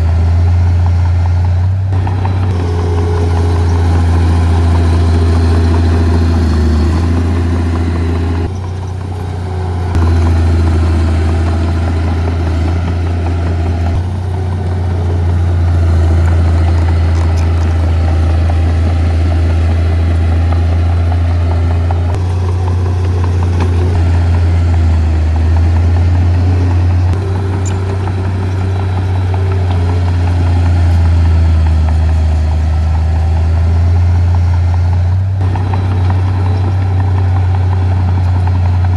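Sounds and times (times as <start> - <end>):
heavy diesel engine drone: 0.0 - 38.9.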